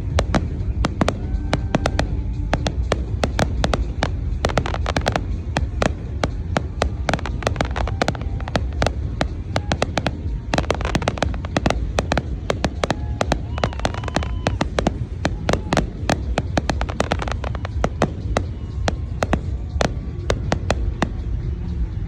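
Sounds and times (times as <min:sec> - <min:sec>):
fireworks bangs and crackles: 0:00.0 - 0:22.0
low rumble: 0:00.0 - 0:22.0
whistling fireworks: 0:00.0 - 0:22.0.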